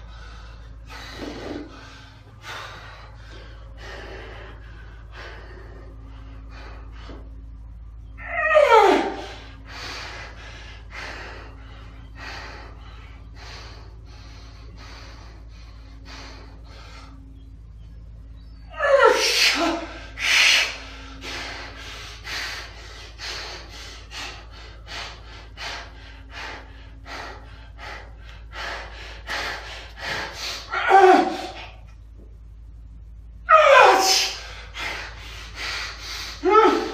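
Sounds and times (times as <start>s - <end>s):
man breathing forcefully: 0.0s - 8.0s, 8.8s - 17.8s, 19.1s - 31.9s, 33.7s - 36.9s.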